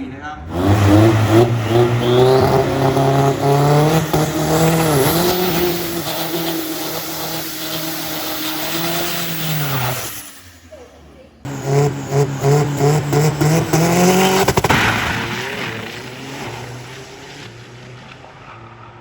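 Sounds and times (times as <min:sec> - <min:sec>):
race car engine at high revs: 0:00.4 - 0:19.0.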